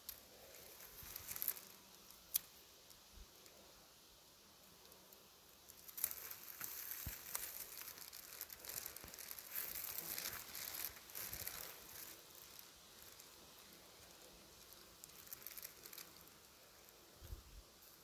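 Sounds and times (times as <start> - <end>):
faint rustling and crackling: 0.0 - 18.0.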